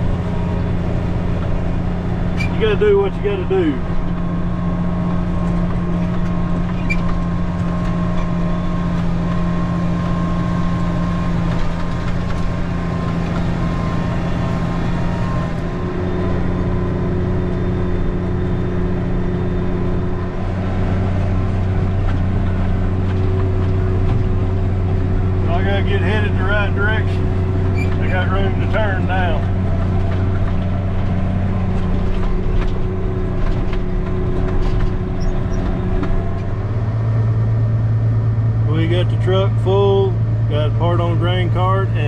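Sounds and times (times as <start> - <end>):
deep hum: 0.0 - 42.0
tractor engine running: 0.0 - 42.0.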